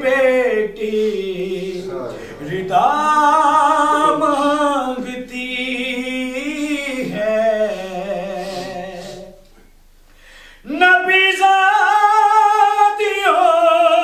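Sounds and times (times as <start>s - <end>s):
man singing unaccompanied: 0.0s - 9.5s, 10.6s - 14.0s.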